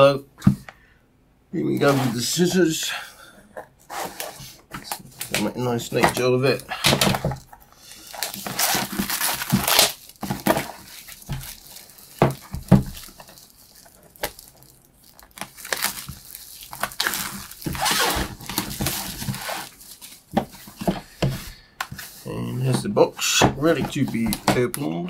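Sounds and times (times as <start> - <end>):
packaging crinkling and rustling: 3.6 - 25.0.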